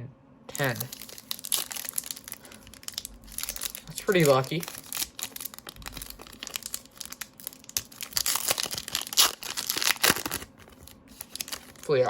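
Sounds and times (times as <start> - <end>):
card pack wrapper crinkling: 0.5 - 12.0
cards rustling: 0.5 - 12.0.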